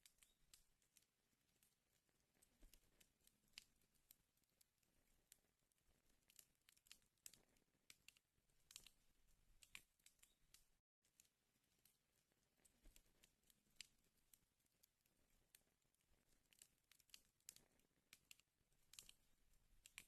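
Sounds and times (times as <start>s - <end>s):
wood fire crackling and popping: 0.0s - 4.6s, 5.2s - 10.8s, 11.6s - 20.0s.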